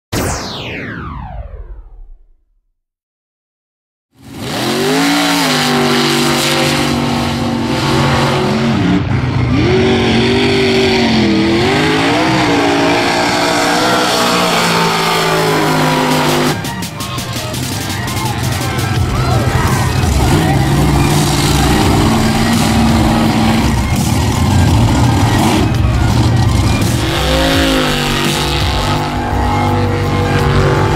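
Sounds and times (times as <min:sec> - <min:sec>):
truck engine revving: 0:04.2 - 0:30.9.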